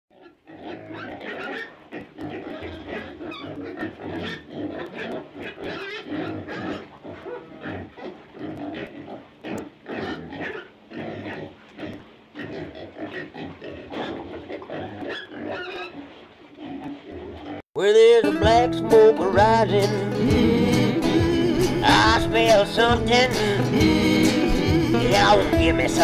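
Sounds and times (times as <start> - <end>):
pig grunting and oinking: 0.1 - 17.6, 19.9 - 26.0.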